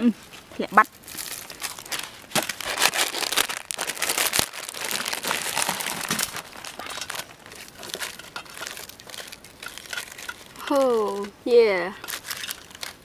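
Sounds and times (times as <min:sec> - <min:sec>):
plastic wrappers crinkling: 0:00.8 - 0:13.0.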